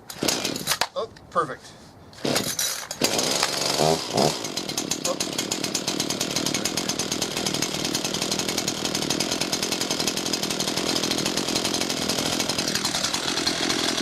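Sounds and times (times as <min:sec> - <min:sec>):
chainsaw engine running: 0:00.2 - 0:00.7, 0:02.2 - 0:14.0.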